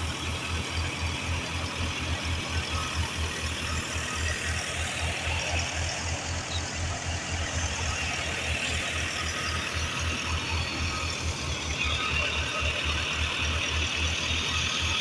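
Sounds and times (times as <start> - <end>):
tractor diesel engine throbbing: 0.0 - 15.0.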